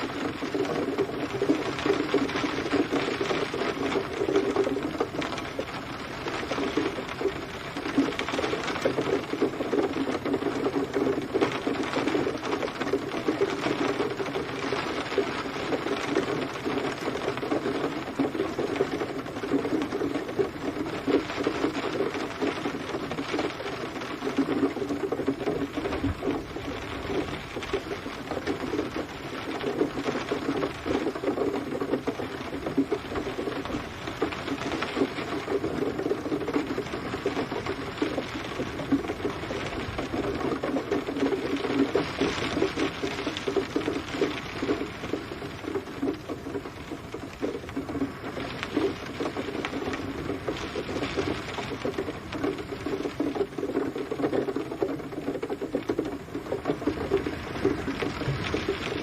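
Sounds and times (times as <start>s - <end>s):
rain pattering on hard surface: 0.0s - 59.0s.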